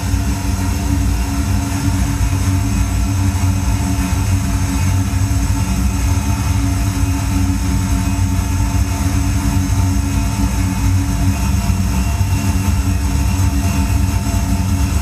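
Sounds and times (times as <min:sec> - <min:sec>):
low machine-like drone: 0:00.0 - 0:15.0.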